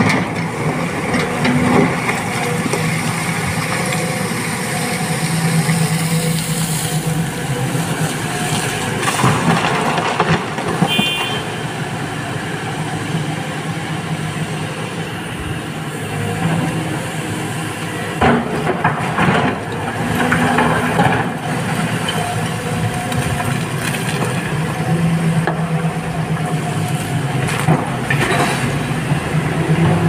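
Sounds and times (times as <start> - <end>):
heavy diesel machinery running: 0.0 - 30.0.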